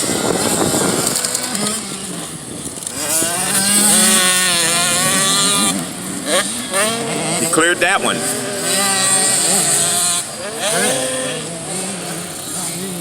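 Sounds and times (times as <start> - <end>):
bike engine revving: 0.0 - 13.0
motocross bike engines racing: 0.0 - 13.0.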